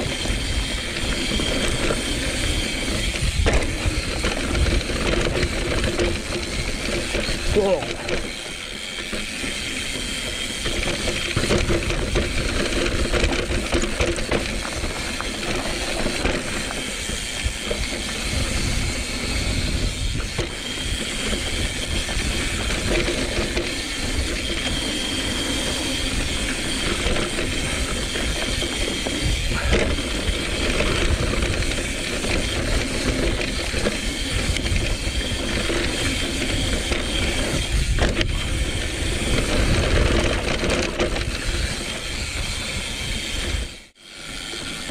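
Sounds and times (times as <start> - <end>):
wind rumble on microphone: 0.0 - 43.9
bike rattling over bumps: 0.0 - 44.9
bike tyres rolling over dirt: 0.0 - 44.9.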